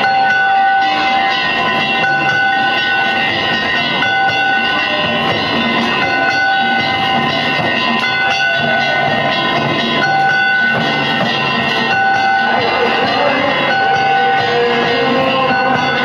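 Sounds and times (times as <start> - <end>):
festival din: 0.0 - 16.0
high steady tone: 0.0 - 16.0.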